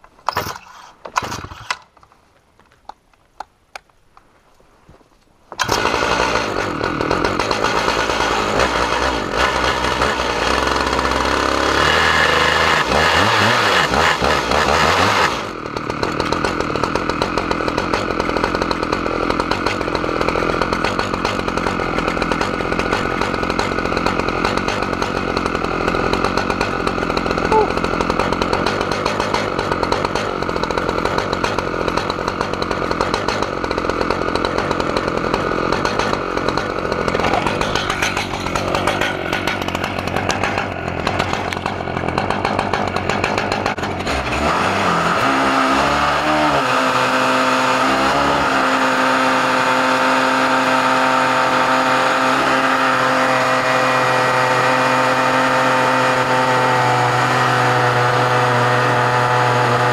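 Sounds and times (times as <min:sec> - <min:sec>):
chainsaw cutting log: 0:00.2 - 0:02.0, 0:05.5 - 0:59.9.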